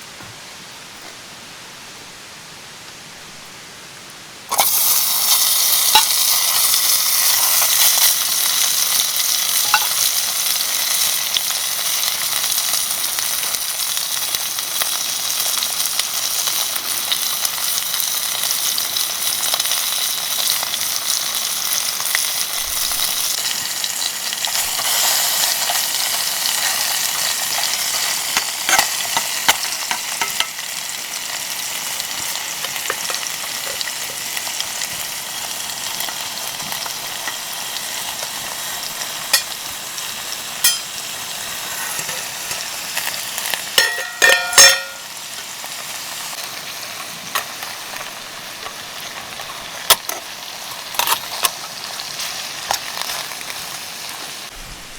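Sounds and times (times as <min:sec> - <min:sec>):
food sizzling in a pan: 0:04.5 - 0:54.6.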